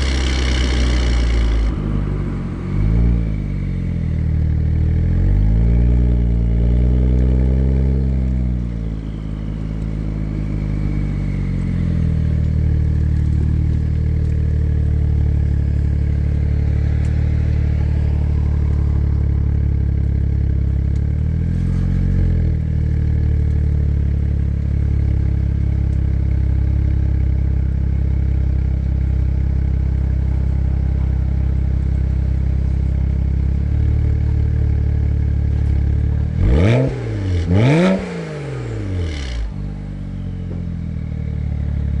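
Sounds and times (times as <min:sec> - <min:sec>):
car engine revving: 0:00.0 - 0:25.3, 0:26.2 - 0:40.6
car engine idling: 0:00.0 - 0:42.0.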